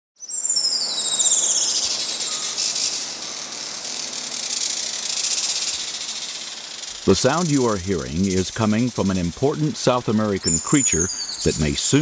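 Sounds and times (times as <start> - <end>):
hummingbird trilling: 0.2 - 12.0.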